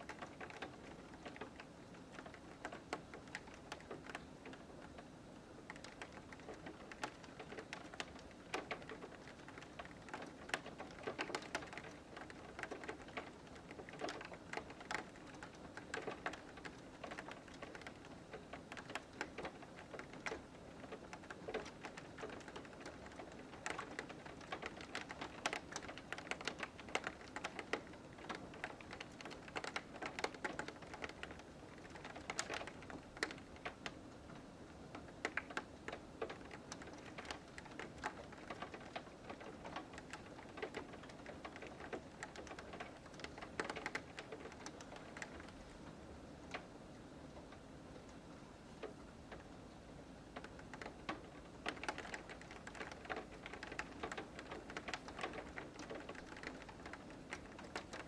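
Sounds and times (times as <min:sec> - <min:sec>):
light rain pattering on window: 0:00.0 - 0:58.0.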